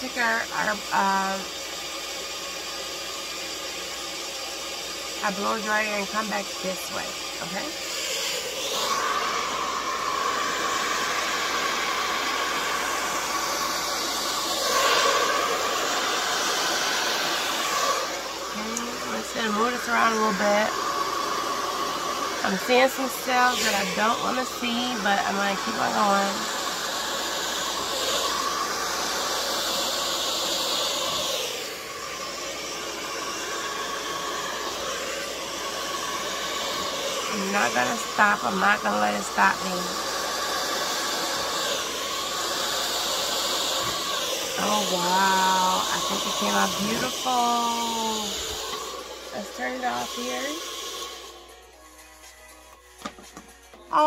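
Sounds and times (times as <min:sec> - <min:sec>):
hair dryer blowing: 0:00.0 - 0:54.0.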